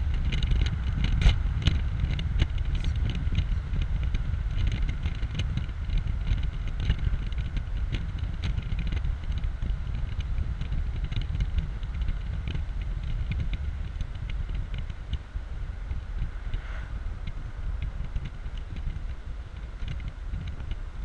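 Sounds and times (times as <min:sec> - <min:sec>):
road noise: 0:00.0 - 0:21.0
wind buffeting on microphone: 0:00.0 - 0:21.0.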